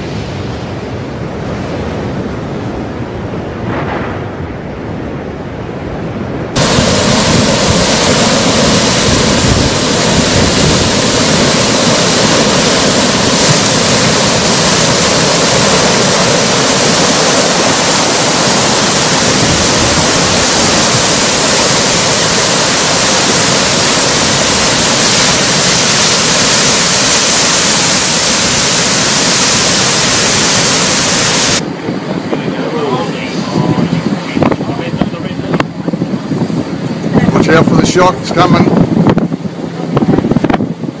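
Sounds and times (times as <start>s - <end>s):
mud and water rushing: 0.0s - 41.0s.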